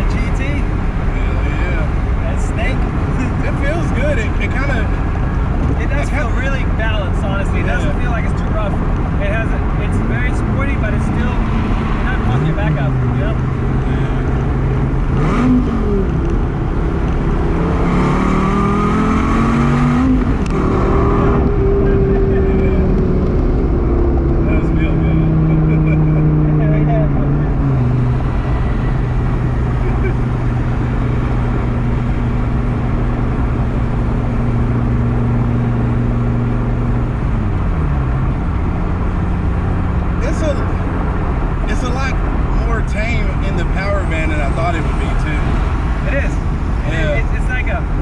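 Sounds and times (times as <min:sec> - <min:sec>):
road noise: 0:00.0 - 0:48.0
sports car engine accelerating: 0:00.0 - 0:48.0.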